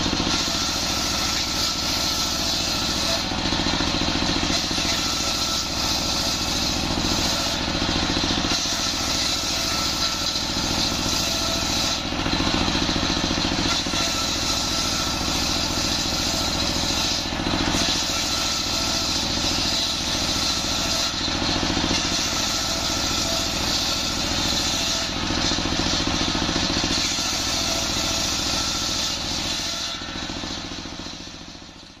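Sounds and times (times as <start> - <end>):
circular saw cutting wood: 0.0 - 32.0
diesel engine running: 0.0 - 32.0.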